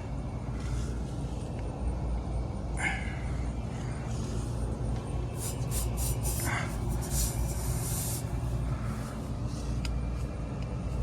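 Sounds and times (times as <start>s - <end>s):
hvac machinery hum: 0.0s - 11.0s.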